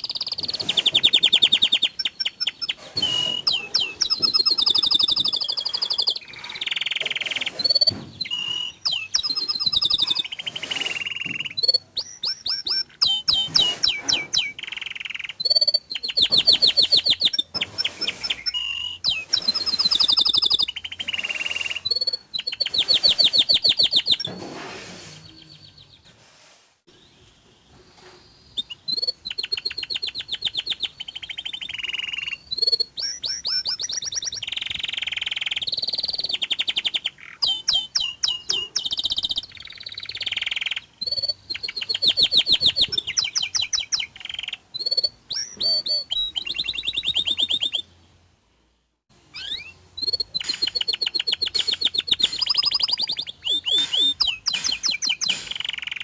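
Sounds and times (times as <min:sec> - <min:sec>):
canary singing trills: 0:00.0 - 0:24.4, 0:26.9 - 0:48.1, 0:49.2 - 0:56.0.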